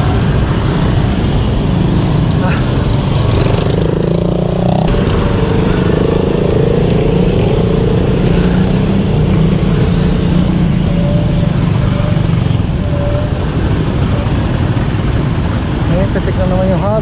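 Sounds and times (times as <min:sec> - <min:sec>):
low traffic rumble: 0:00.0 - 0:17.0
motorcycle and car engines in traffic: 0:00.0 - 0:17.0.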